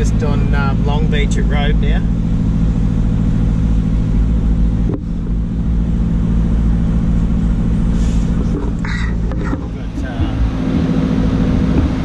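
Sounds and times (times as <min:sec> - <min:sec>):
car engine running: 0:00.0 - 0:12.0
tyre and road rumble: 0:00.0 - 0:12.0.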